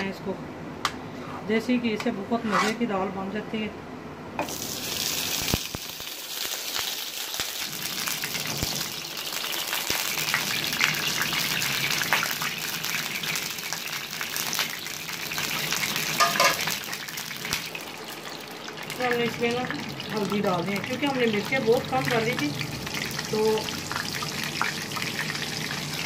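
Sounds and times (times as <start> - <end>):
ghee sizzling in a pan: 4.4 - 26.0.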